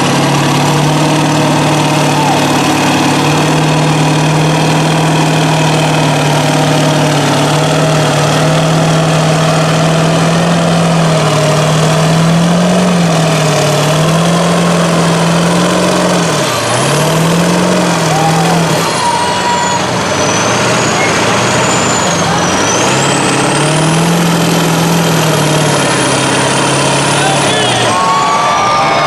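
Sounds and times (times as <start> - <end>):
diesel truck engine crawling: 0.0 - 29.0.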